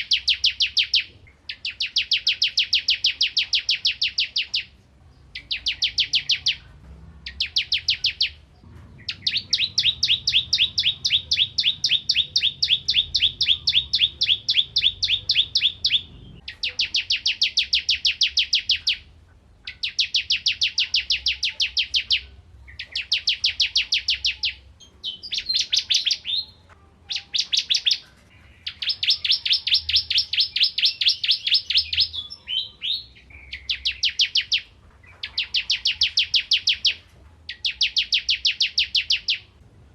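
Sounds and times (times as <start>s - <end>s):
bird singing sharp chirps: 0.0s - 4.7s, 5.3s - 39.6s.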